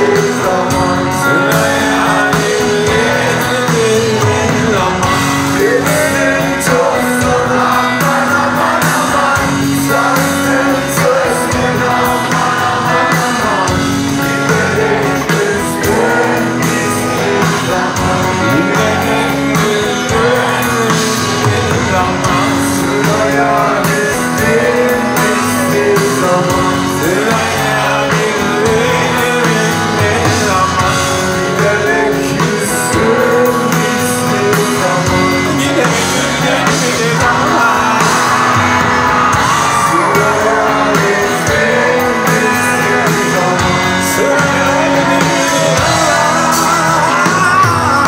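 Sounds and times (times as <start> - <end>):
live rock band playing: 0.0 - 48.0
man singing: 0.0 - 48.0.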